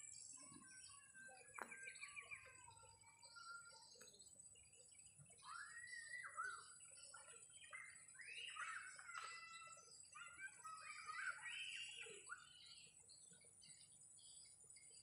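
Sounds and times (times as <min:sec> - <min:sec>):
birds whistling calls: 0:00.0 - 0:15.0.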